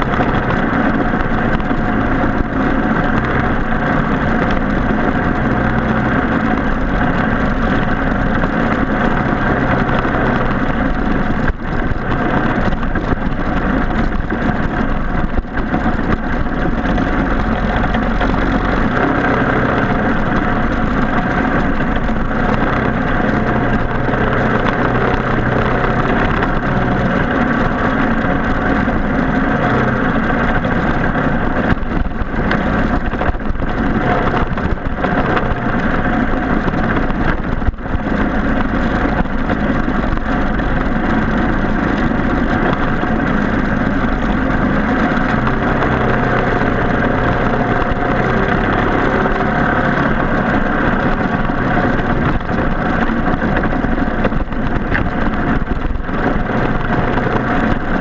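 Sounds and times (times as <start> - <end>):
kart engine running: 0.0 - 58.0.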